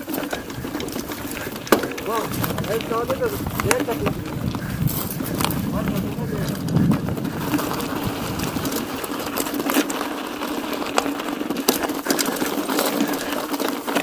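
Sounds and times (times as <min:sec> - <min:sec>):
bike rattling and knocking: 0:00.0 - 0:14.0
mountain bike rolling on dirt: 0:00.0 - 0:14.0.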